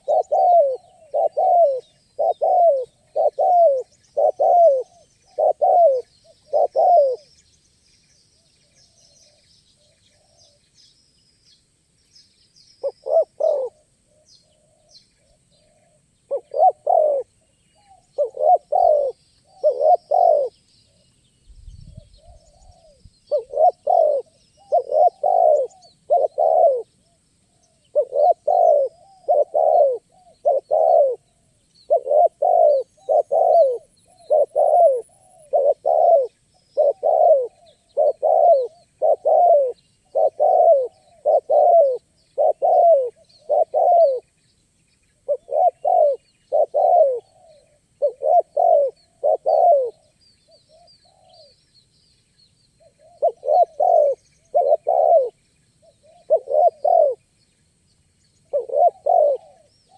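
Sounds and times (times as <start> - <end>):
dove cooing: 0.0 - 7.3, 12.8 - 20.6, 21.8 - 27.0, 27.7 - 44.3, 45.2 - 51.6, 52.8 - 57.2, 58.4 - 59.9
small birds chirping: 0.0 - 59.9.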